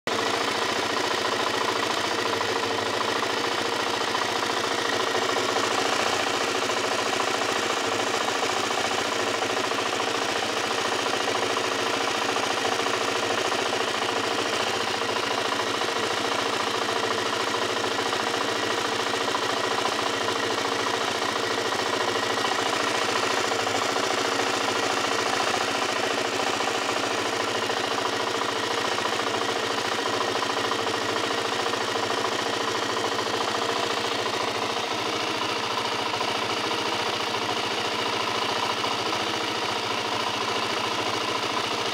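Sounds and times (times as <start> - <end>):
quad engine running: 0.0 - 41.9
ticking in engine: 0.1 - 41.9.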